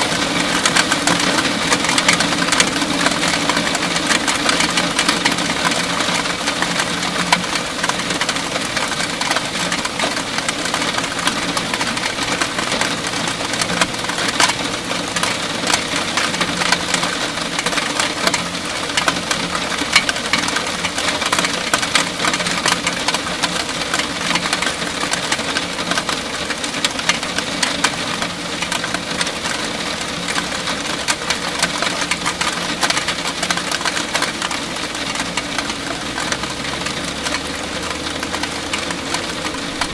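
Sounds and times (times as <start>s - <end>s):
heavy rain on roof: 0.0s - 39.9s.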